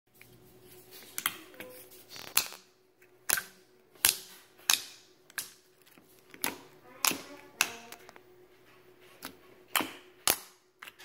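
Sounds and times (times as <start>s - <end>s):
slime squishing: 0.2s - 11.0s.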